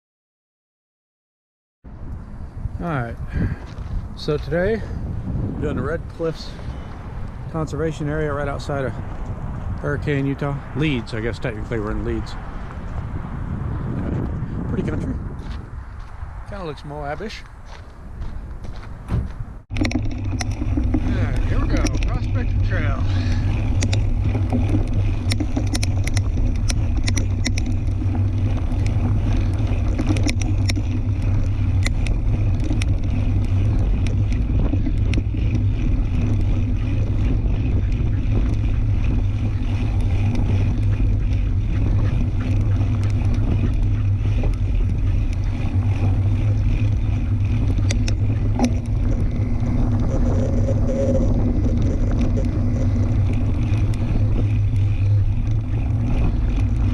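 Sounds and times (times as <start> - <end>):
bike tyre rumble: 1.9 - 56.9
wind on microphone: 1.9 - 56.9
bike clicks and rattles: 2.1 - 56.9.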